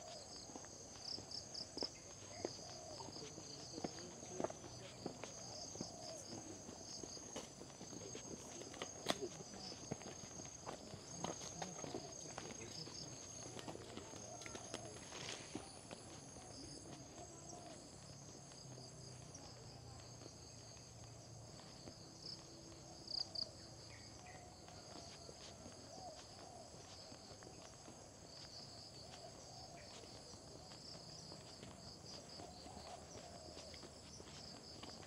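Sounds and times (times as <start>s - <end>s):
insects chorus: 0.0s - 35.0s.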